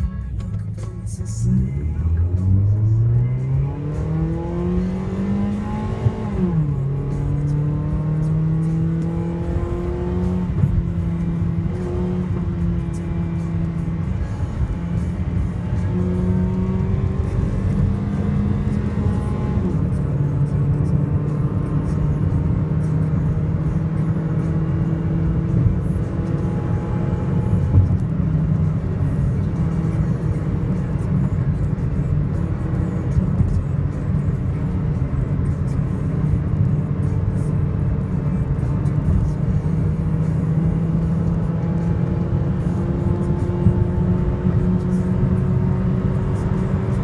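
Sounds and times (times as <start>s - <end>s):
car engine droning: 0.0s - 47.0s
wind and road noise: 0.0s - 47.0s.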